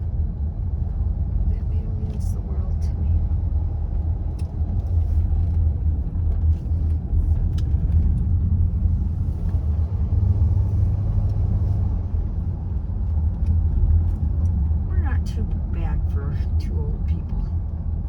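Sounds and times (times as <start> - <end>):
car driving rumble inside cabin: 0.0 - 18.0.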